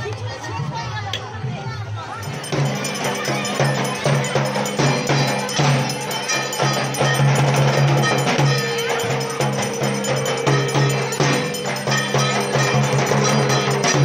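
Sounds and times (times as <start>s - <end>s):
metal bells ringing: 2.1s - 14.0s
low drum beat: 2.2s - 14.0s.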